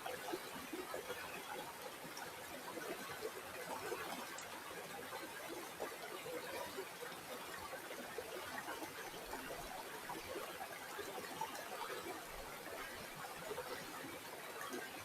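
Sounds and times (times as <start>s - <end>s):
river water babbling: 0.1s - 15.0s.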